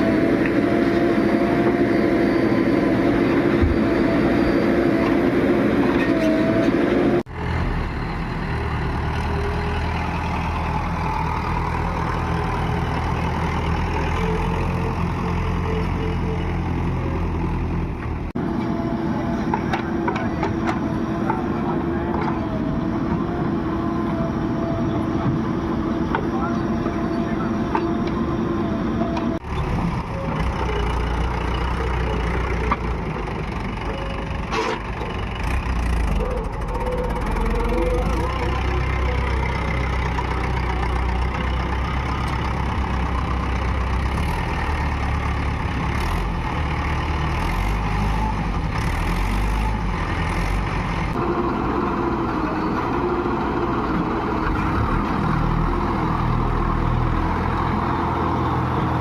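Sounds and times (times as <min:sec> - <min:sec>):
diesel machinery engine running: 0:00.0 - 0:59.0.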